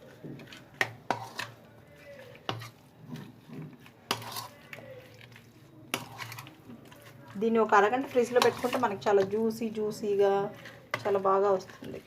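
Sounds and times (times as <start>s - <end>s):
stirring marinade in a bowl: 0.0s - 12.0s.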